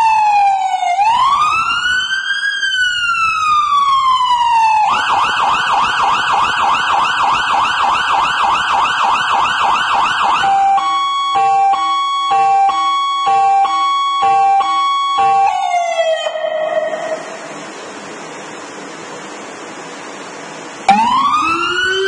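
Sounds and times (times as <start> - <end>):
electronic siren wail and yelp: 0.0 - 17.9, 20.9 - 22.0.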